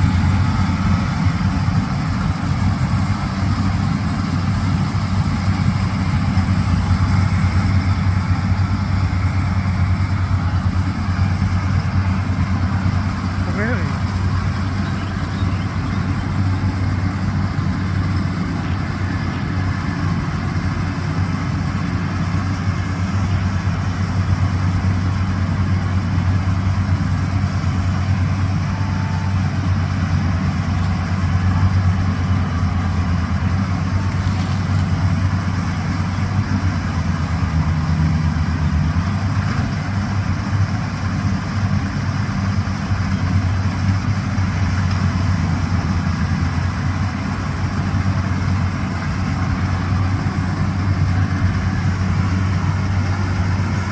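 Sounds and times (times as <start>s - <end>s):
combine harvester engine droning: 0.0s - 53.9s.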